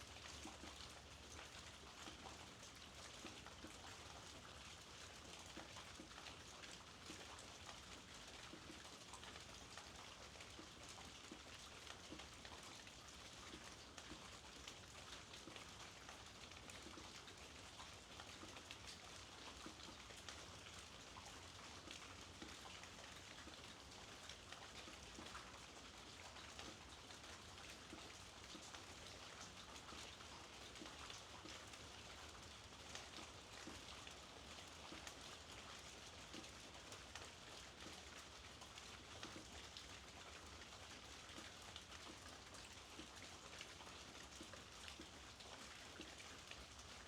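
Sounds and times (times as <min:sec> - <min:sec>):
soft steady rainfall: 0:00.0 - 0:47.0.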